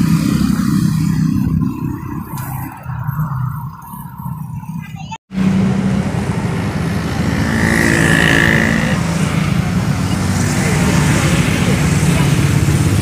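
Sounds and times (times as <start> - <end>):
motorcycles and scooters passing: 0.0 - 13.0.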